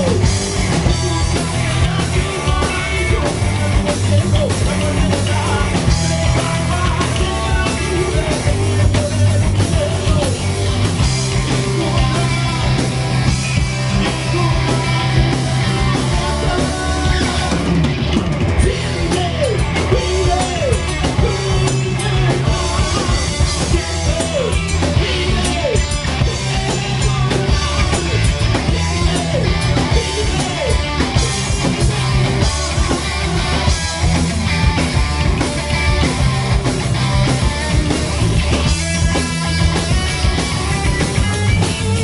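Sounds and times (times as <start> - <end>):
drum kit beat: 0.0 - 42.0
live rock band playing: 0.0 - 42.0.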